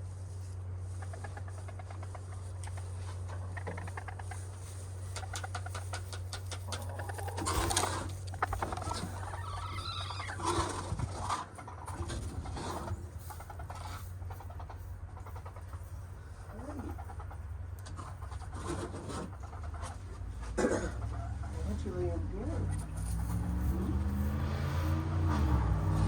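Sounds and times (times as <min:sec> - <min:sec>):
scratching and rustling: 0:00.0 - 0:26.0
hens clucking softly: 0:00.2 - 0:26.0.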